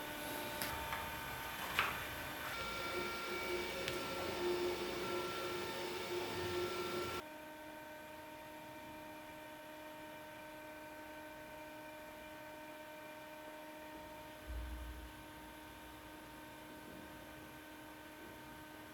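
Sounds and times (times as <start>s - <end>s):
faint electrical hum: 0.0s - 18.9s.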